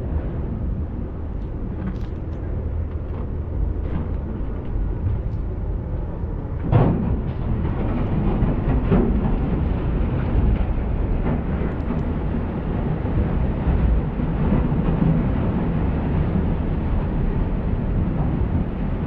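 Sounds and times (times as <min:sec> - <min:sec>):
ferry engine low rumble: 0:00.0 - 0:19.0.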